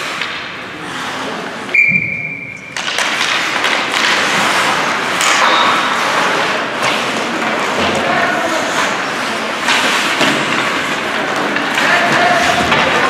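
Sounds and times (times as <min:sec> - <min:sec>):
crowd voices: 0:00.0 - 0:13.0.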